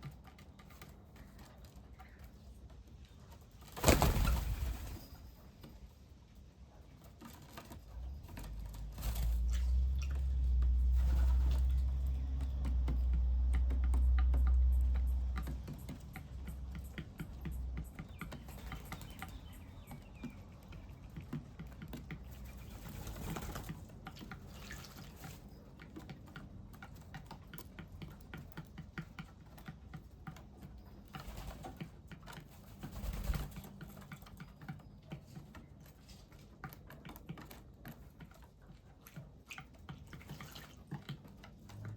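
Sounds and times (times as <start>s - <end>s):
birds clicking and tapping: 0.0s - 41.9s.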